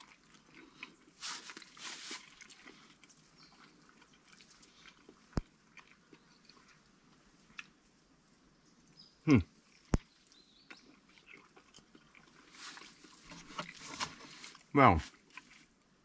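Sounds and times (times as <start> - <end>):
person chewing crunchy food: 0.0 - 7.8, 9.6 - 15.8.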